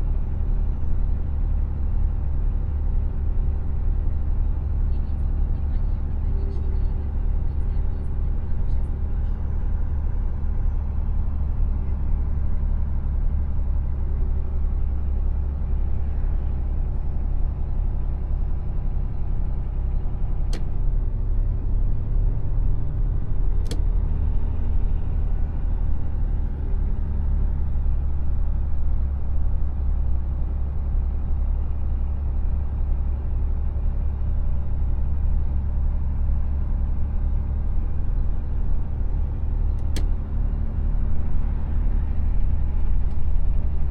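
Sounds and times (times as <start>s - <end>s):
truck diesel engine and road noise: 0.0s - 43.9s.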